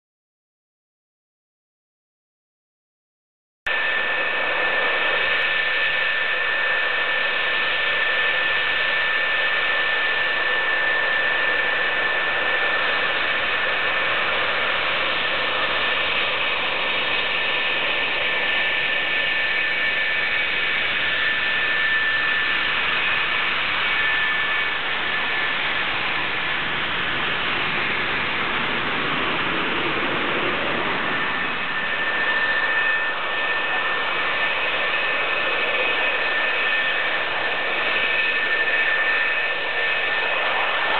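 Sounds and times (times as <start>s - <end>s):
jet engines whining at taxi: 3.7s - 40.9s.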